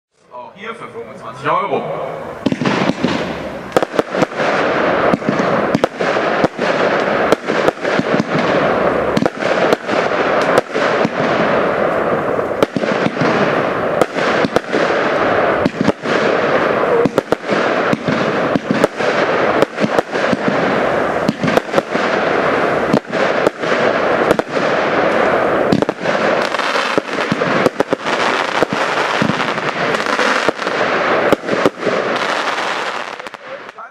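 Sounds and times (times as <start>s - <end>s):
firework crackle: 2.0s - 33.9s
firework battery firing: 2.1s - 33.9s.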